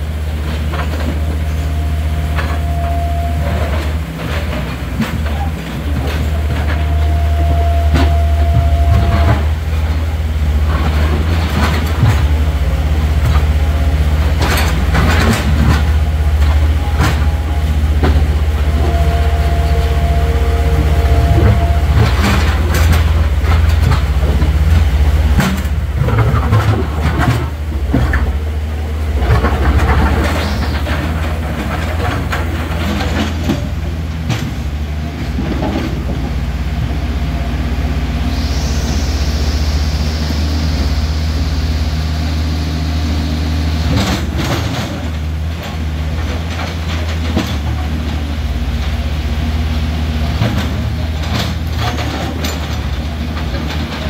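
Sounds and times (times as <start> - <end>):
rushing river water: 0.0 - 44.4
excavator diesel engines rumbling: 0.0 - 54.0
hydraulic whine: 0.0 - 54.0.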